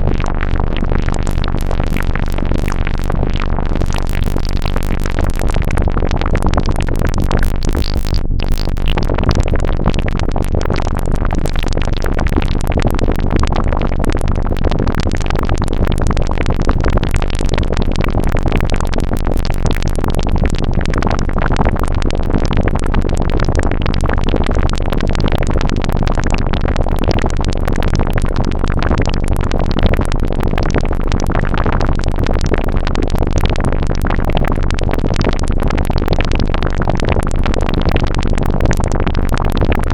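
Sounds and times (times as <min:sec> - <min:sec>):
synthesized water clicks and pops: 0:00.0 - 0:39.9.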